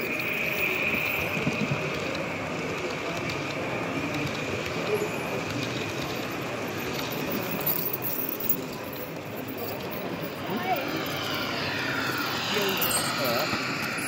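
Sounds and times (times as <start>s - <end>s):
model train rolling on track: 0.0s - 14.0s.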